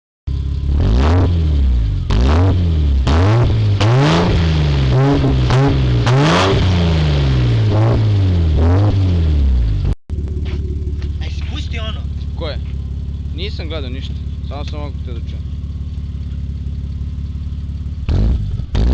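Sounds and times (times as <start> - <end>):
car engine revving: 0.3 - 18.9.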